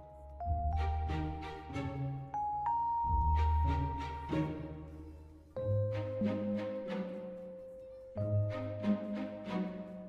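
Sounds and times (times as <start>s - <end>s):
background music with soft beats: 0.0s - 10.0s.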